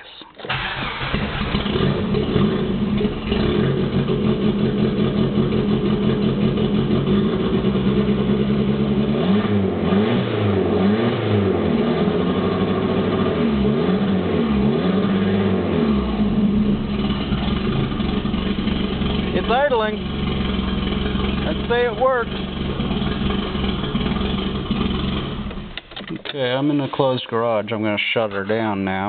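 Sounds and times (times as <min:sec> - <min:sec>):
rough car engine revving: 0:00.5 - 0:27.2.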